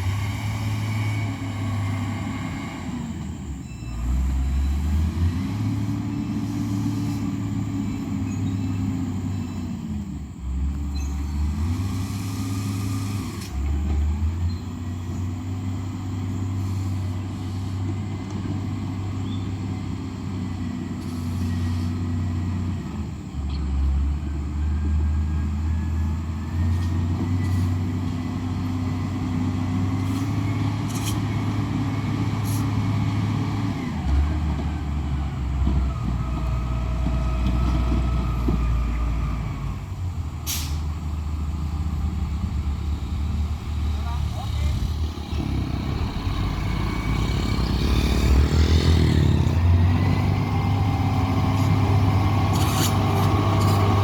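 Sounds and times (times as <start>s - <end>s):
heavy vehicle engine revving: 0.0s - 54.0s.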